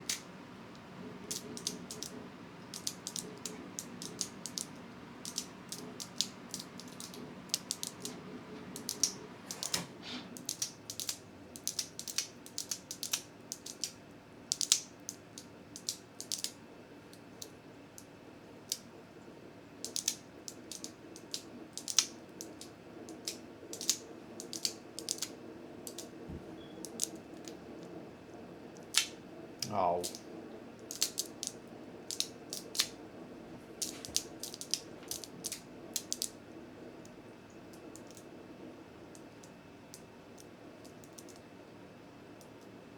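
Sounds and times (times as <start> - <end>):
faint low hum: 0.0 - 42.9.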